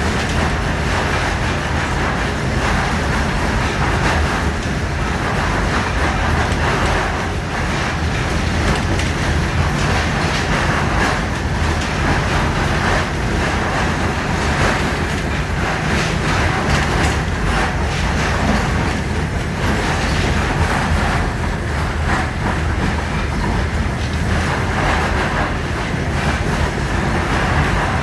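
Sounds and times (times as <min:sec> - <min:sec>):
tram rumbling on rails: 0:00.0 - 0:28.0
wheels clicking on track: 0:00.0 - 0:28.0.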